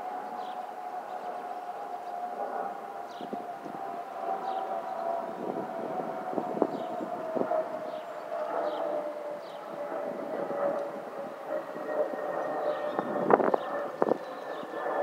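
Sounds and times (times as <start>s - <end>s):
airliner whistling tone: 0.0s - 15.0s
jet engines rumbling: 0.0s - 15.0s.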